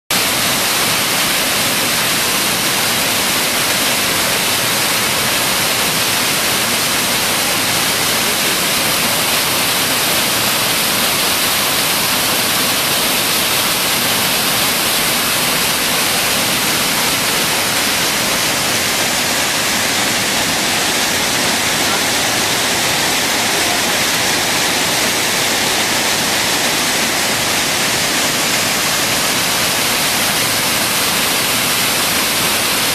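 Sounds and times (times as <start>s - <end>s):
creek water rushing: 0.1s - 32.9s.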